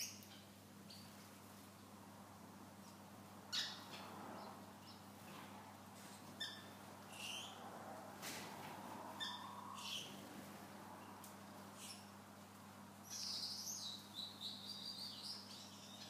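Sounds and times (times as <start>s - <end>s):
cage birds chirping and squawking: 0.0s - 1.4s, 2.7s - 16.0s
faint steady hum: 0.0s - 16.0s.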